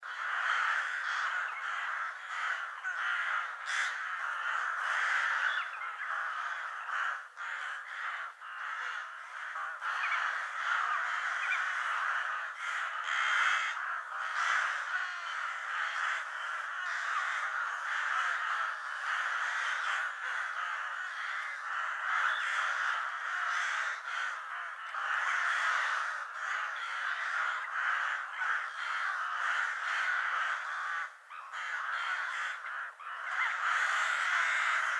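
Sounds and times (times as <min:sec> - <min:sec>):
ravens cawing: 0:00.0 - 0:34.9.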